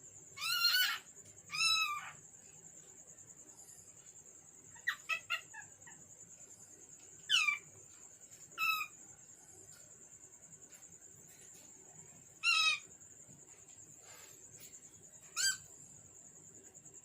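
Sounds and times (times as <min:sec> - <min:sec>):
faint high-pitched whine: 0:00.0 - 0:17.0.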